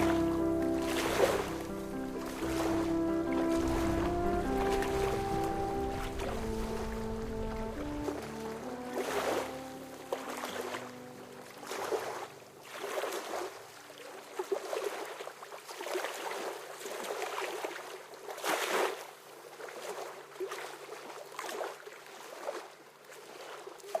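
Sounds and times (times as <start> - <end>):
small waves lapping: 0.0 - 24.0.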